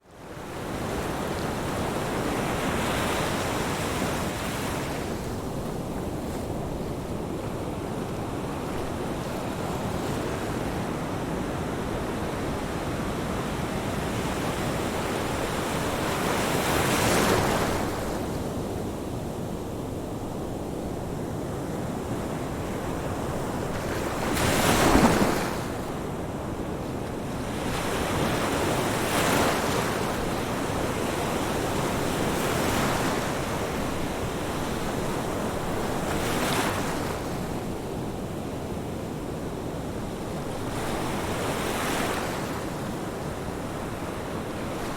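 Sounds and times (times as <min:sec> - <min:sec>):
ocean waves on shore: 0:00.0 - 0:44.9.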